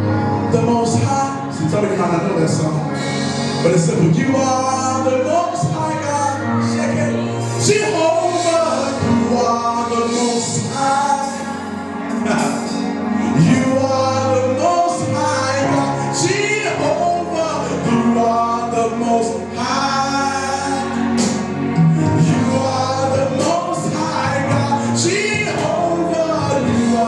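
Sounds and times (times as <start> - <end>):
live band: 0.0 - 27.0
choir singing worship song: 3.0 - 27.0.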